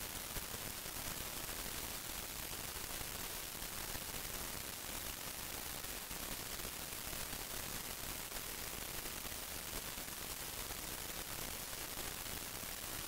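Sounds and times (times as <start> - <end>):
recording noise hiss: 0.0 - 13.0.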